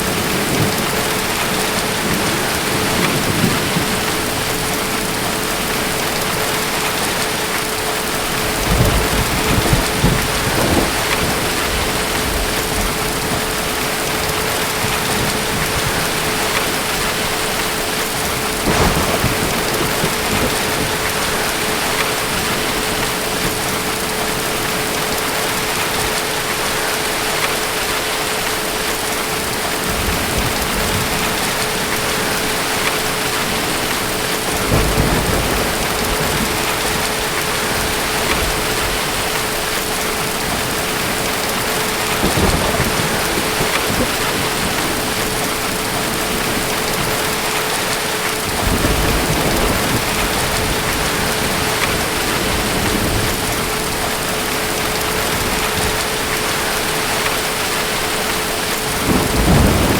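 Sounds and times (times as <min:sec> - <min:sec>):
distant thunder rolling: 0:00.0 - 0:26.2, 0:29.8 - 0:59.9
steady rain: 0:00.0 - 0:59.9.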